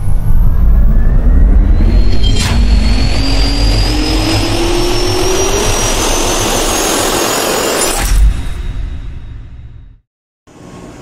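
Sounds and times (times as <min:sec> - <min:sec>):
jet turbine whine rising: 0:00.0 - 0:09.5
deep rumble: 0:00.0 - 0:10.0.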